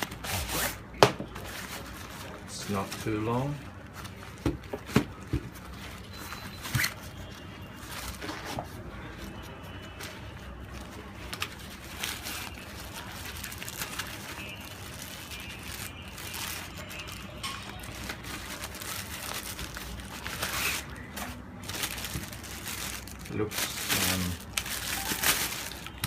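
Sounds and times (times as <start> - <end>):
packaging rustling and crinkling: 0.0 - 26.0.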